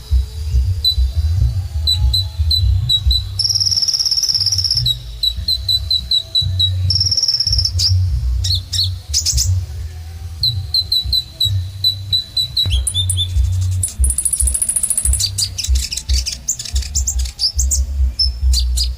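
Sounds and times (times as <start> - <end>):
buzzy bird trill: 0.0 - 18.9
steady low rumble: 0.0 - 18.9
sunbird chirping: 0.0 - 18.9.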